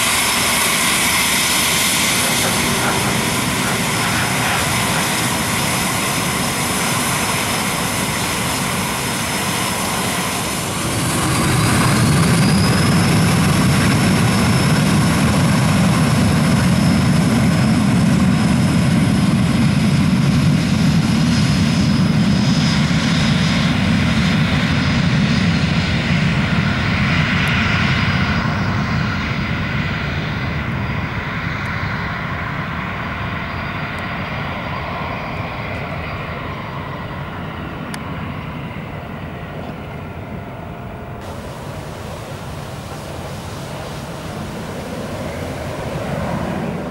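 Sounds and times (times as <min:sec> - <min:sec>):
jet engines roaring with whine: 0:00.0 - 0:46.9.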